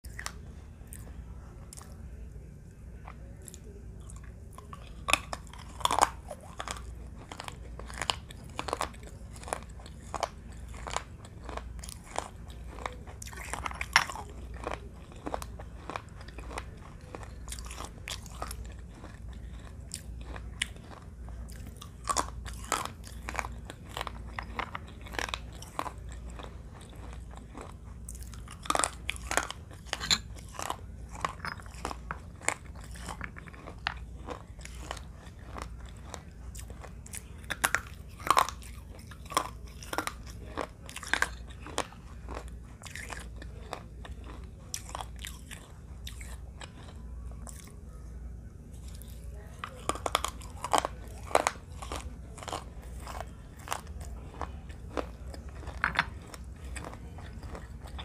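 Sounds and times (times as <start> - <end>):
crunching baked clay: 0.0 - 58.0
steady low hum: 0.0 - 58.0.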